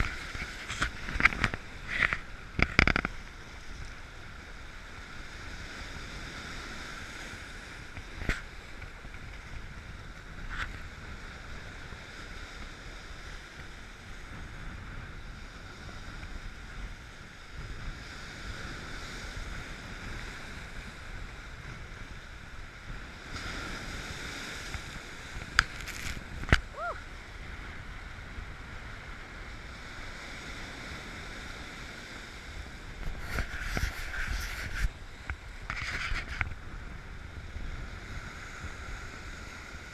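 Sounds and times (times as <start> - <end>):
waves splashing against rocks: 0.0 - 14.4, 17.3 - 39.9
wind noise on microphone: 0.0 - 39.9.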